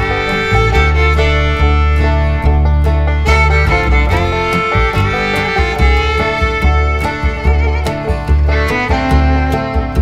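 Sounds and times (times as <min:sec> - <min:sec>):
upbeat country music with fiddle: 0:00.0 - 0:10.0.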